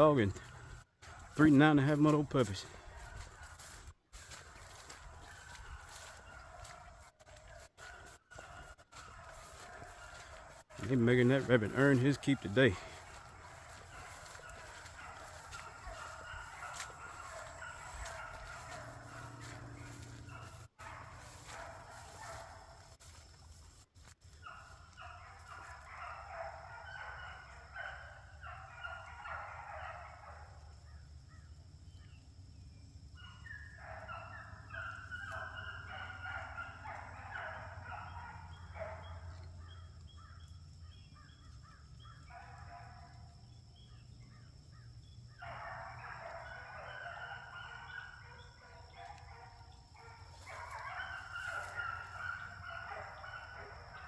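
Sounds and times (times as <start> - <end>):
distant hounds baying: 0.0 - 54.0.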